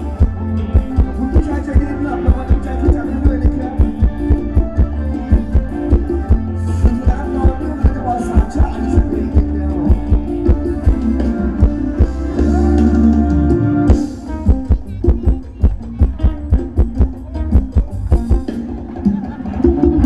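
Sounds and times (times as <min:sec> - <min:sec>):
deep held bass notes: 0:00.0 - 0:18.4
live band dance music: 0:00.0 - 0:20.0
steady drum beat: 0:00.0 - 0:20.0.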